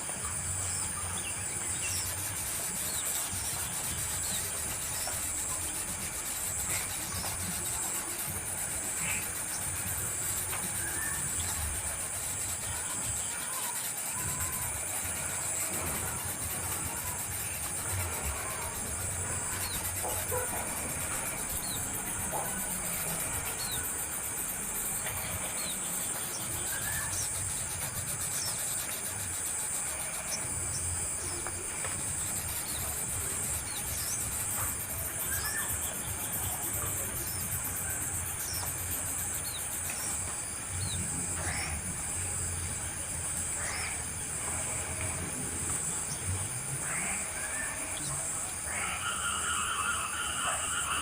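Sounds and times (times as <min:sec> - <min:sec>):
high-pitched pulsing insect buzz: 0:00.0 - 0:51.0.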